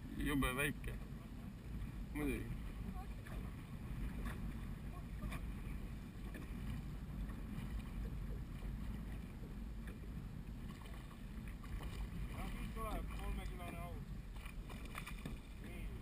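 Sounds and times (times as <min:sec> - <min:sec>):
wind buffeting microphone: 0:00.0 - 0:16.0
water slapping against boat hull: 0:00.8 - 0:16.0.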